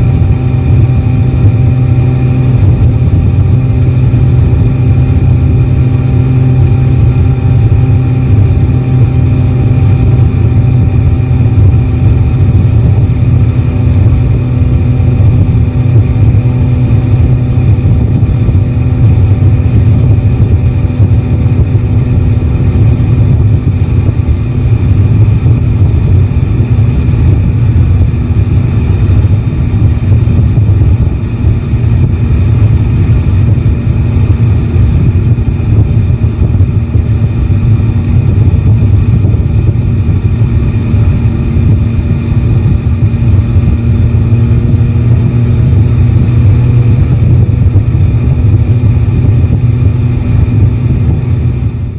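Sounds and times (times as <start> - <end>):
motorcycle engine running steadily: 0.0 - 51.9
road rumble: 0.0 - 51.9
wind: 0.0 - 51.9.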